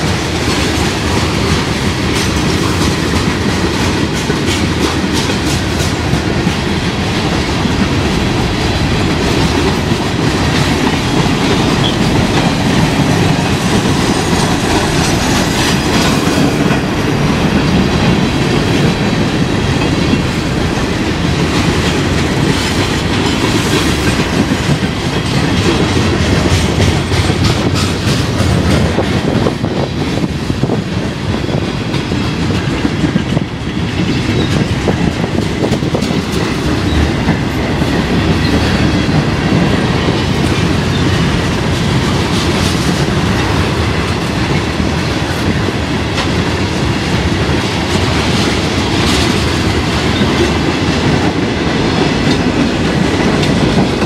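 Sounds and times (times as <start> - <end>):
train rumble: 0.0 - 54.0
train wheels clacking over rail joints: 0.0 - 54.0.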